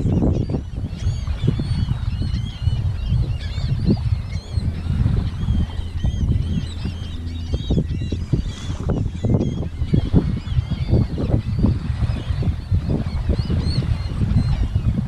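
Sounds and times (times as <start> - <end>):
seagulls calling: 0.0 - 15.0
steady low rumble: 0.0 - 15.0.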